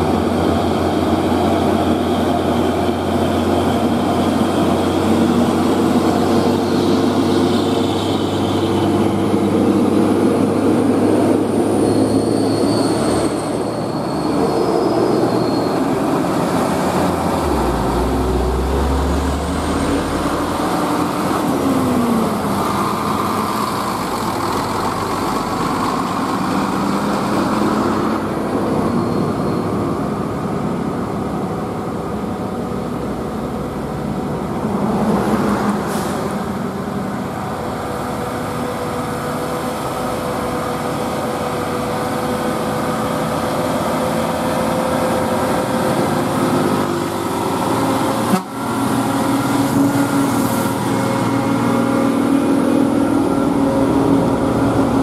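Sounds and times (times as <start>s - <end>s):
diesel trucks passing: 0.0s - 55.0s.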